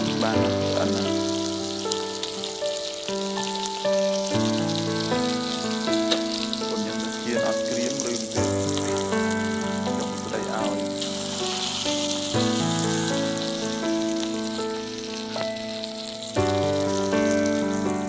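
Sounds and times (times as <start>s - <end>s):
food sizzling in a pan: 0.0s - 18.0s
music of held chords: 0.0s - 18.0s.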